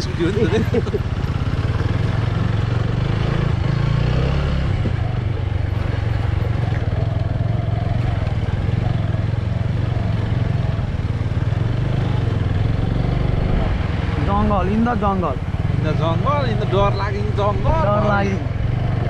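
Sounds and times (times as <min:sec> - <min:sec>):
motorbike engine droning: 0:00.0 - 0:19.0.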